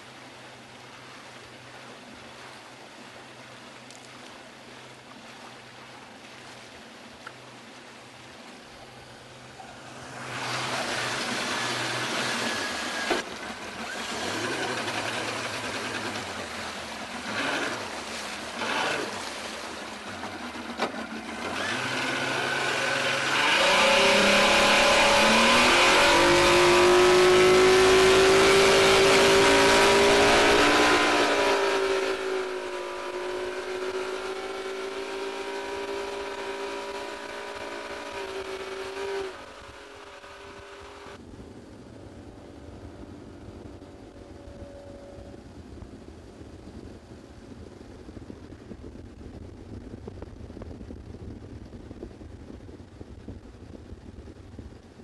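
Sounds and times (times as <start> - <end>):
rush of wake and spray: 0.0 - 53.5
outboard motor running: 0.0 - 55.0.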